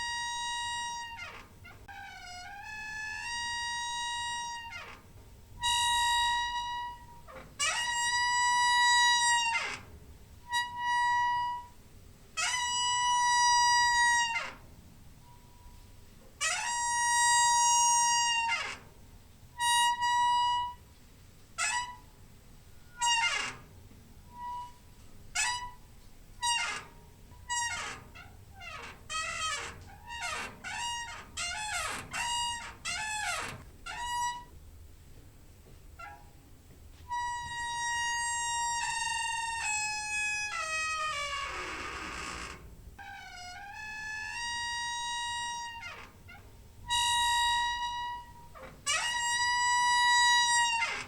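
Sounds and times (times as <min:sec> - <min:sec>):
door hinge squeaking: 0:00.0 - 0:11.8, 0:12.4 - 0:19.0, 0:19.6 - 0:20.8, 0:21.6 - 0:22.2, 0:22.8 - 0:34.6, 0:36.0 - 0:36.4, 0:37.1 - 0:51.0.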